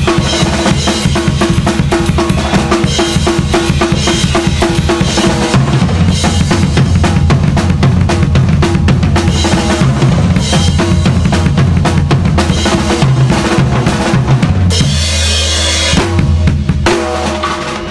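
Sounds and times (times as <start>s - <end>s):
drum kit punk rock beat: 0.0s - 17.9s.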